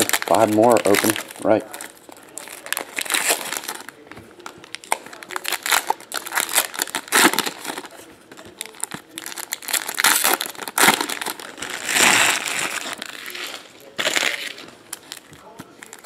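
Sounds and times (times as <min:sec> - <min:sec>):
foil wrappers crinkling: 0:00.0 - 0:16.0.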